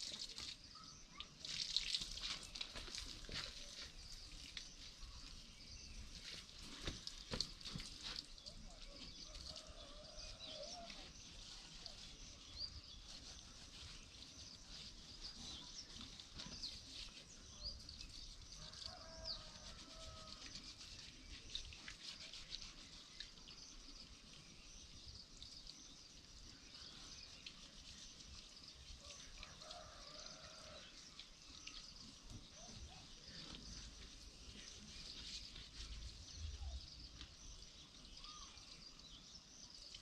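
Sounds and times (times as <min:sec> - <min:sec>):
birds chirping and twittering: 0:00.0 - 0:40.0
faint outdoor background: 0:00.0 - 0:40.0.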